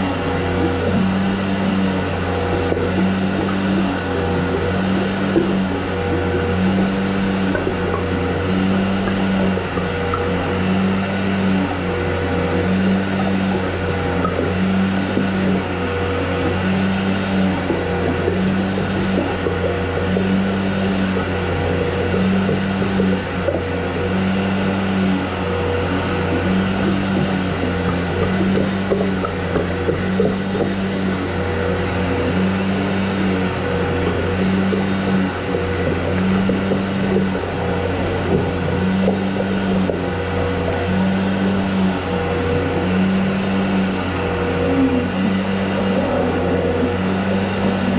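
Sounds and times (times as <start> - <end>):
motor humming with throb: 0.0 - 47.9.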